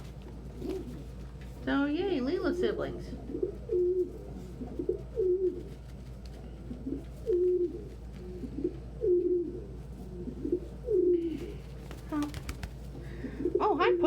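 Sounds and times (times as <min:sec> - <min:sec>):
pigeons cooing: 0:00.0 - 0:01.5, 0:02.5 - 0:14.0.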